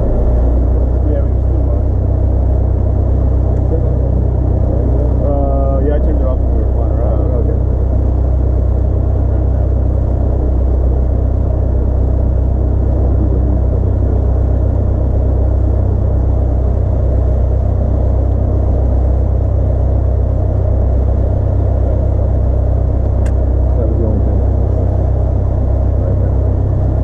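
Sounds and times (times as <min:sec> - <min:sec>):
light aircraft engine drone: 0:00.0 - 0:27.0.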